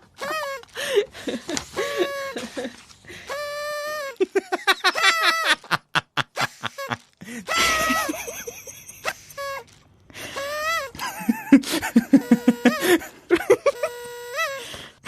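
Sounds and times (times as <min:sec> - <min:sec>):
comic high-pitched laughing squeals: 0:00.2 - 0:14.6.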